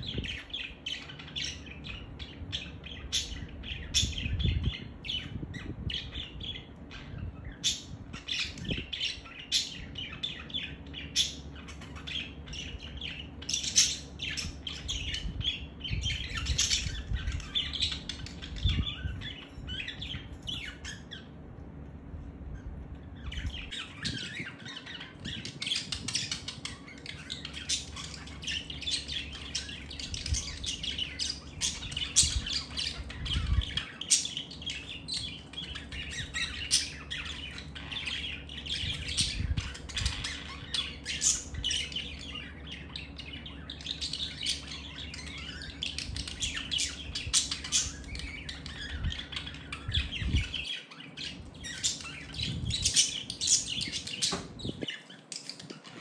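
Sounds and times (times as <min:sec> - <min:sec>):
budgerigars chattering and warbling: 0:00.0 - 0:21.4, 0:23.0 - 0:56.0.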